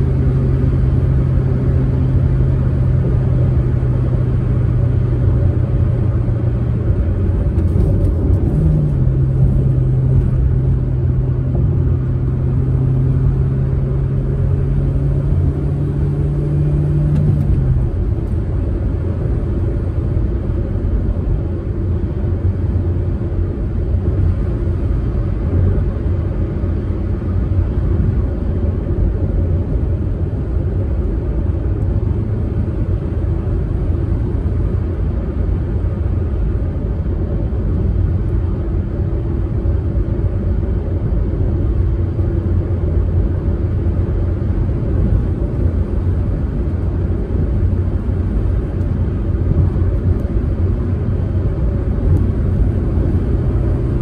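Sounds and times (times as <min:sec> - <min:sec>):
car engine and road rumble: 0:00.0 - 0:54.0
engine hum: 0:00.0 - 0:54.0.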